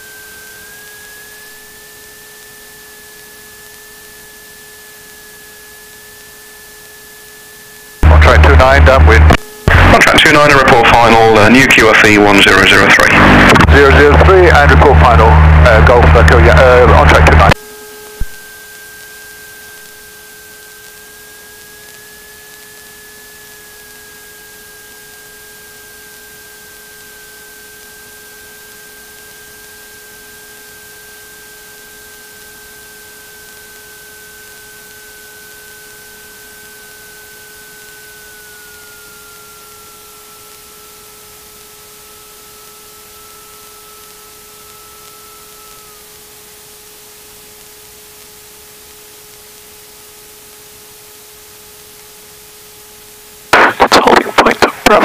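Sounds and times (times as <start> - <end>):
faint whining tones: 0.0 - 53.4
steady electrical hiss: 7.8 - 55.0.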